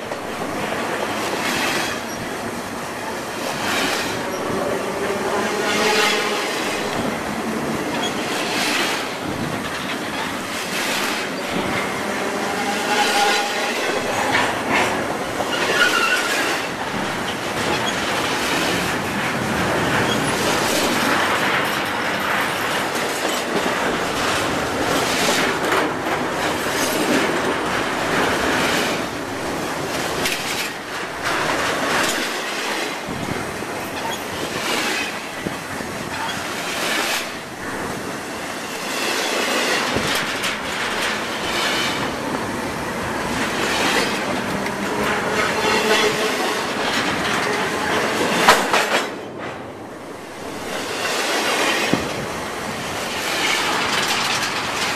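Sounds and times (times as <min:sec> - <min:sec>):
train wheels rumbling and rattling: 0:00.0 - 0:54.9
wheels clacking on rails: 0:00.0 - 0:54.9.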